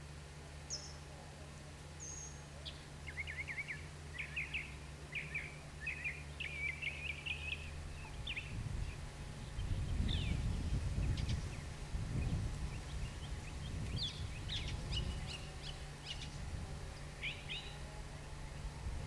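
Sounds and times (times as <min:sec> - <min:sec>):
steady low hum: 0:00.0 - 0:19.0
bird chirping: 0:02.0 - 0:18.6.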